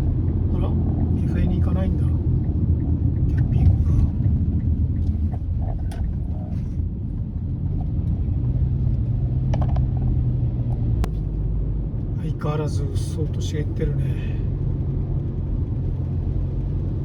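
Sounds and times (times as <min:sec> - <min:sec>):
car engine and tyres rumbling: 0:00.0 - 0:17.0
low steady hum: 0:00.0 - 0:17.0.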